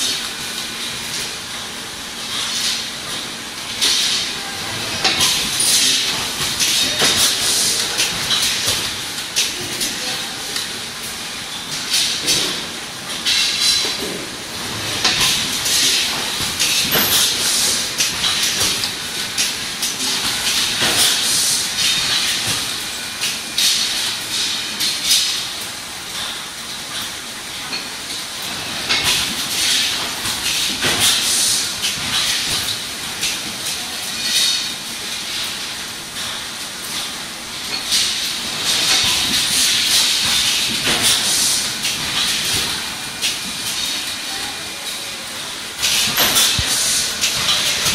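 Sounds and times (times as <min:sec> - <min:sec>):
machine clatter: 0:00.0 - 0:44.3, 0:45.4 - 0:47.9.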